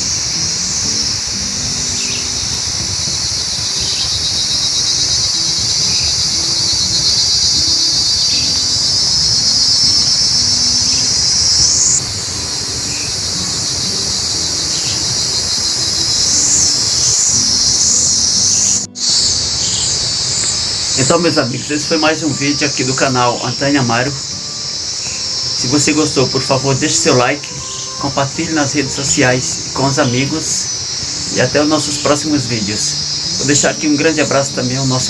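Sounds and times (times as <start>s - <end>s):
insects droning in chorus: 0.0s - 35.0s
soft low melody: 0.0s - 35.0s.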